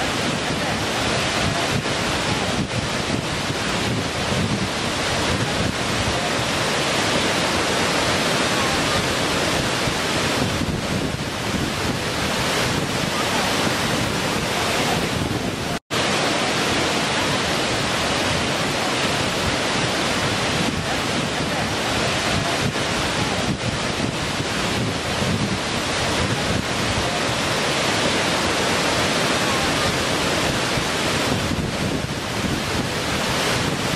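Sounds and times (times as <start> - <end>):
waterfall rushing and splashing: 0.0 - 33.9.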